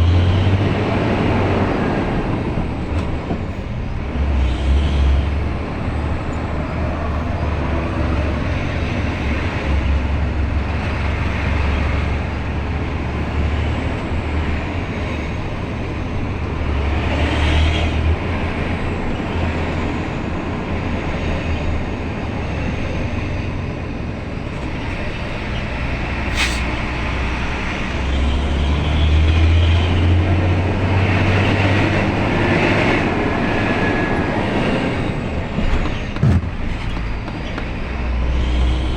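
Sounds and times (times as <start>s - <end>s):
road and traffic noise: 0.0s - 38.9s
vehicle engine droning: 0.0s - 38.9s.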